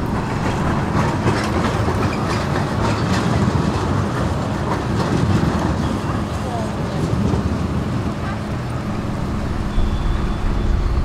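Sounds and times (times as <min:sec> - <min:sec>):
rail clicks: 0:00.0 - 0:11.0
tram rumbling on rails: 0:00.0 - 0:11.0.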